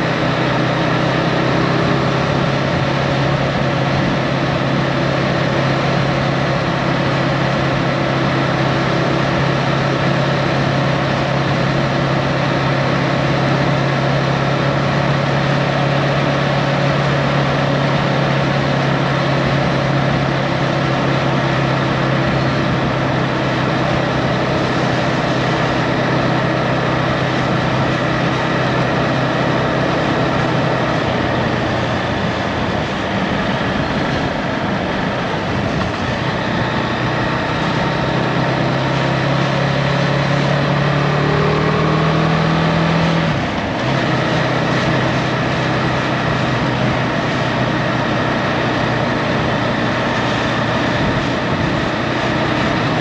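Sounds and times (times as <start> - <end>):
motorcycle engine cruising: 0.0 - 53.0
wind and road rush: 0.0 - 53.0.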